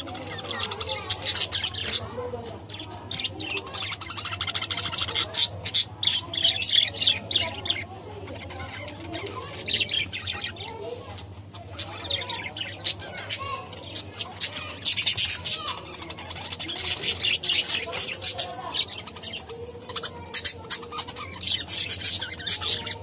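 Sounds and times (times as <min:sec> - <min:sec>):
budgerigars chattering: 0:00.0 - 0:23.0.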